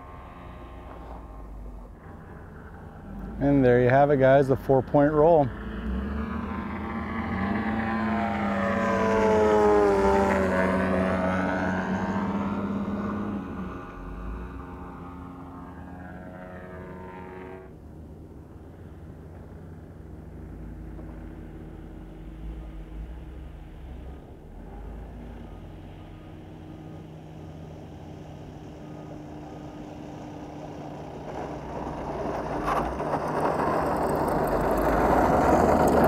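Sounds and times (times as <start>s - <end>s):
model airplane engine droning: 0.0s - 36.0s.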